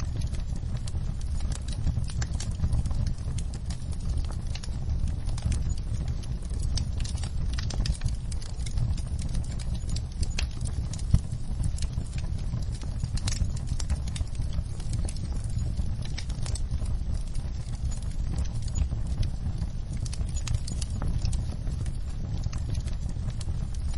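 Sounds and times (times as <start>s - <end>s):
low rumble of flames: 0.0s - 23.9s
wood fire crackling: 0.0s - 23.9s.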